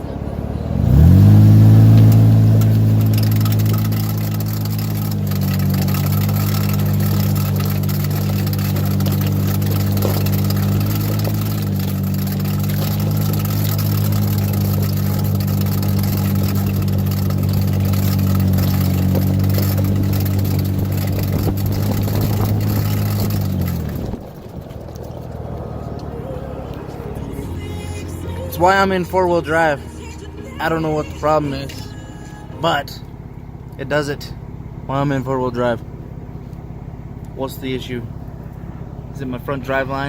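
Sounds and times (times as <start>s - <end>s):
car engine driving slowly: 0.0s - 40.0s.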